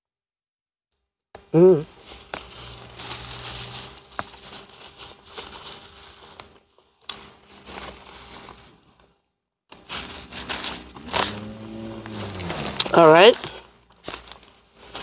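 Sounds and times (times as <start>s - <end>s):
paper napkin crinkling: 1.9s - 15.0s.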